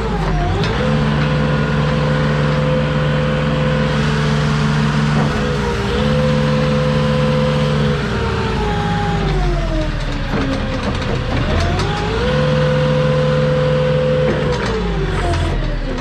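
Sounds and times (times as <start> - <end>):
forklift engine revving: 0.0 - 16.0.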